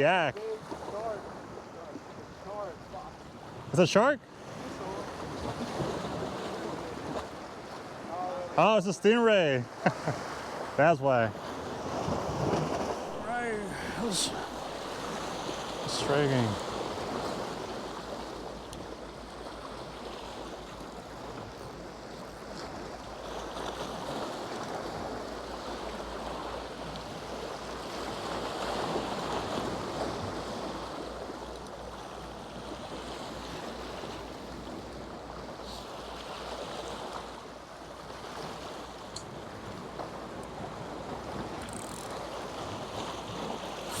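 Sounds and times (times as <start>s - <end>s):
surf washing against rocks: 0.0s - 44.0s.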